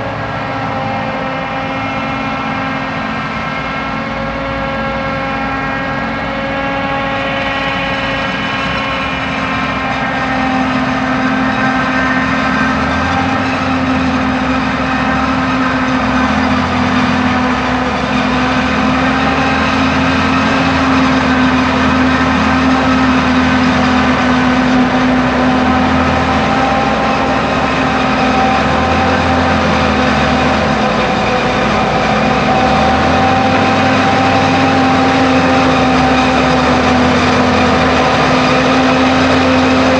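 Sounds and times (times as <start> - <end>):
diesel farm machinery running: 0.0 - 39.9.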